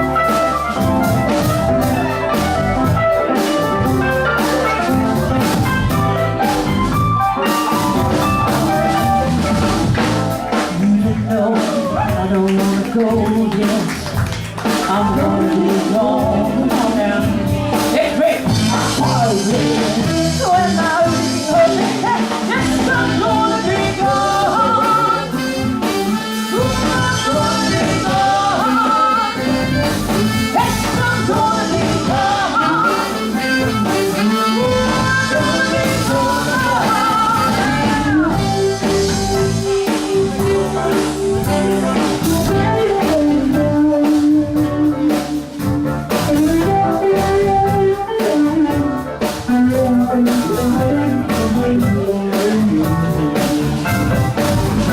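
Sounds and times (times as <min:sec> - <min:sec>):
lead guitar melody: 0:00.0 - 0:11.3, 0:13.1 - 0:54.9
blues rock band playing: 0:00.0 - 0:54.9.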